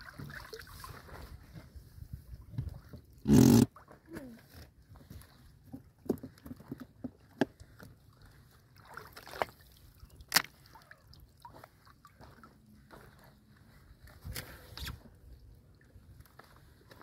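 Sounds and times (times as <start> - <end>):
water sloshing and dripping: 0.0 - 17.0.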